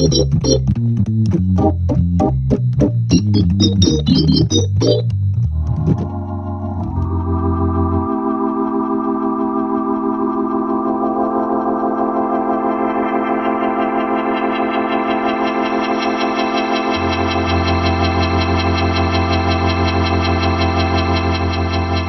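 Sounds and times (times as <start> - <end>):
organ chord with pulsing waver: 0.0 - 22.0.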